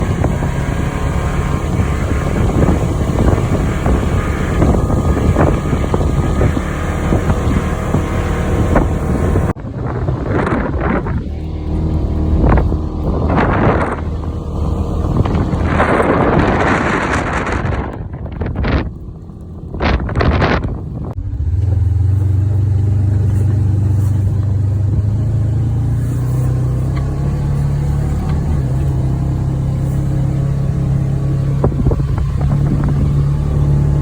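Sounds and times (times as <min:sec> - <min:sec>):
off-road vehicle engine running: 0:00.0 - 0:34.0
wind buffeting microphone: 0:00.0 - 0:34.0.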